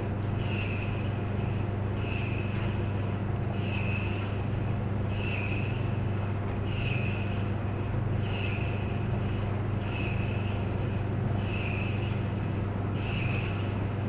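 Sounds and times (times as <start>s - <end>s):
clothes dryer motor hum: 0.0s - 14.0s.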